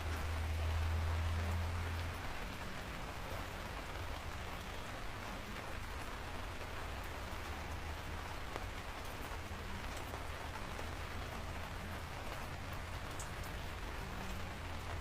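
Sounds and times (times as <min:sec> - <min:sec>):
rain hissing: 0:00.0 - 0:15.0
raindrops ticking: 0:00.0 - 0:15.0.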